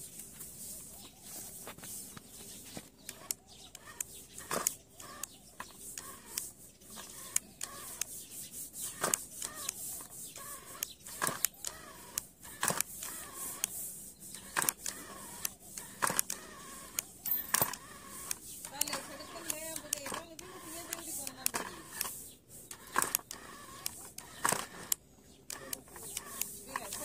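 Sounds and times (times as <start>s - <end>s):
toy tractor gears clicking: 0.0s - 27.0s.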